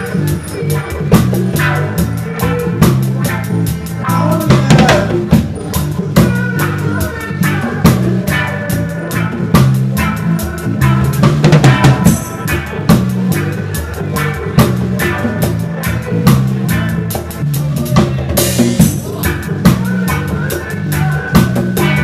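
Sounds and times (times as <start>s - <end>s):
bass line: 0.0s - 22.0s
drum strikes: 0.0s - 22.0s
live reggae band playing: 0.0s - 22.0s.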